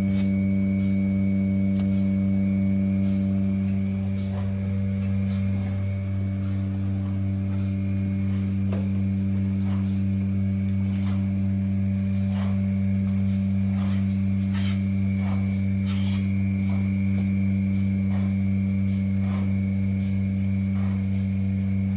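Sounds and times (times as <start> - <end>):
vacuum pump humming: 0.0 - 21.9.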